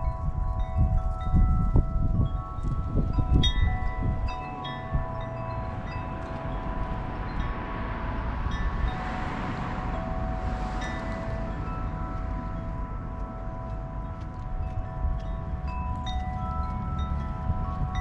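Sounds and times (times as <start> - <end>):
gust of wind: 0.0 - 18.0
wind buffeting microphone: 0.0 - 18.0
wind chimes ringing: 0.0 - 18.0.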